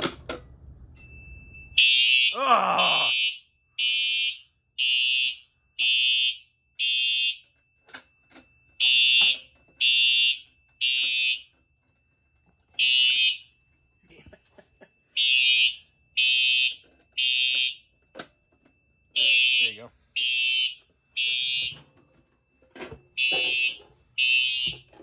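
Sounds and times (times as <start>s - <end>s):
fire alarm horn blasts: 1.6s - 25.0s.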